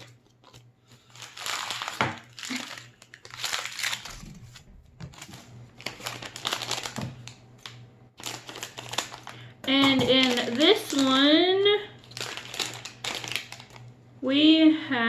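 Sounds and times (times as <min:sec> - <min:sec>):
packet tearing open: 0:00.0 - 0:09.5, 0:10.1 - 0:11.3, 0:12.0 - 0:13.8
plastic packaging crinkling: 0:00.0 - 0:13.9.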